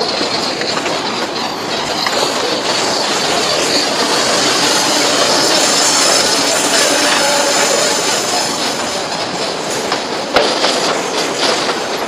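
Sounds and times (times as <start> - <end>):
train wheels rumbling on rail: 0.0 - 12.0
wheel clacks: 0.0 - 12.0.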